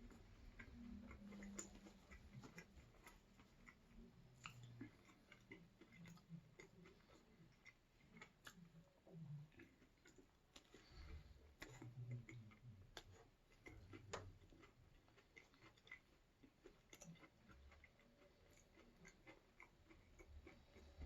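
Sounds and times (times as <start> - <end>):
faint chewing: 0.0 - 21.0.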